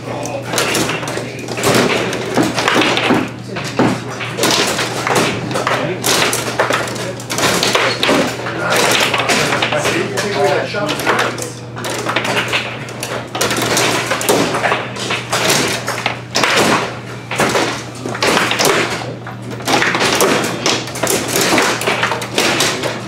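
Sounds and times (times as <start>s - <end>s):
ball cracking against foosball men: 0.0s - 23.0s
foosball rods sliding and clunking: 0.0s - 23.0s.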